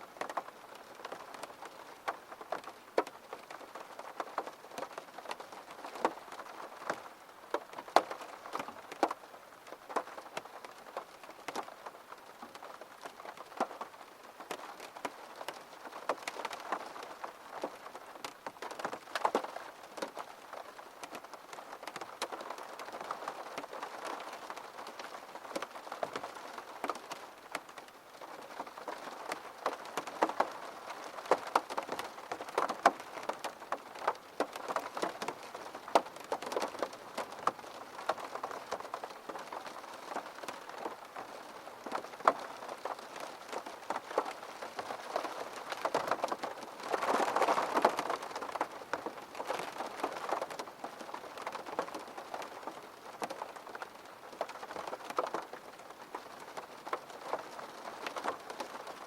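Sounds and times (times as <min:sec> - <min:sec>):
rain pattering on hard surface: 0:00.0 - 0:59.0.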